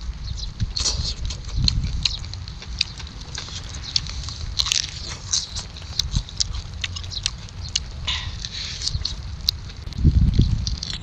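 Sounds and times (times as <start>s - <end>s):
steady low rumble: 0.0s - 11.0s
chewing with wet smacking: 0.4s - 11.0s.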